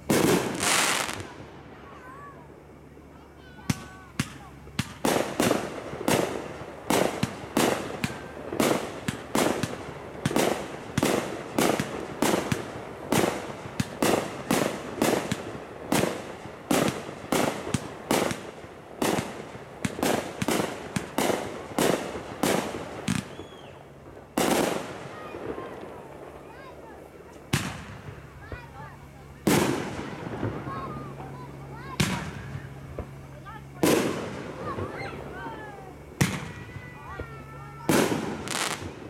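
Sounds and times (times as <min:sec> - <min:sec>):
fireworks bursting bangs: 0:00.0 - 0:39.0.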